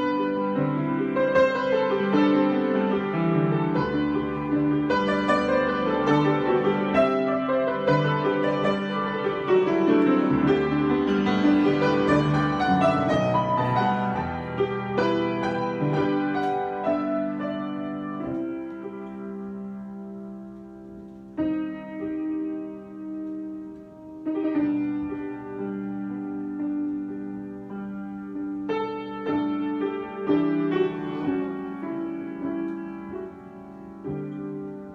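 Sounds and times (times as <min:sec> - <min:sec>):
solo piano: 0:00.0 - 0:34.9.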